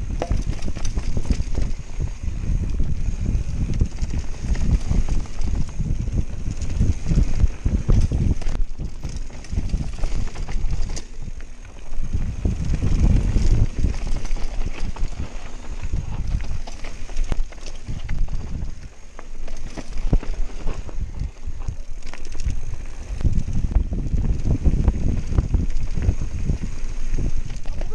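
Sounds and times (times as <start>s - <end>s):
bike rattling over bumps: 0.0s - 27.9s
tyres rumbling on dirt trail: 0.0s - 27.9s
wind buffeting microphone: 0.0s - 27.9s.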